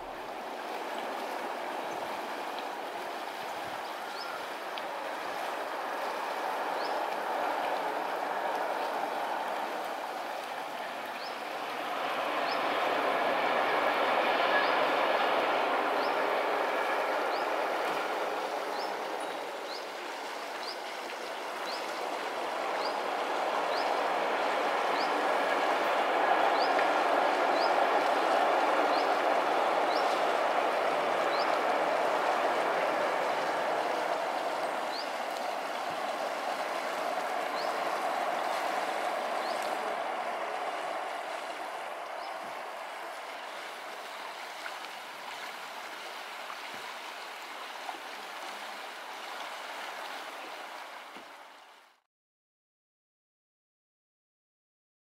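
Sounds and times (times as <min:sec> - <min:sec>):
distant train rumble: 0:00.0 - 0:51.1.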